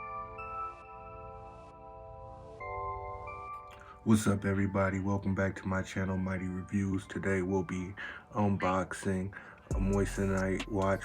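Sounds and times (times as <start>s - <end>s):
background music of held chords: 0.0s - 11.0s.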